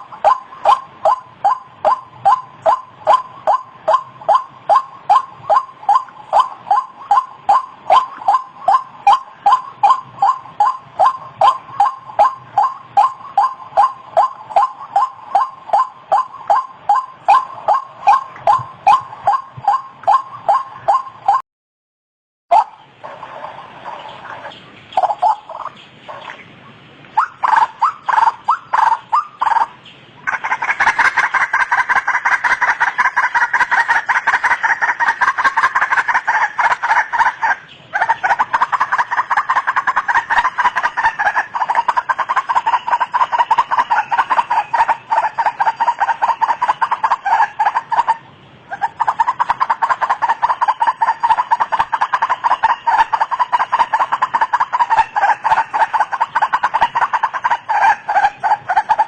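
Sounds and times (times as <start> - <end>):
waterhen calling: 0.0 - 21.4, 22.5 - 59.0.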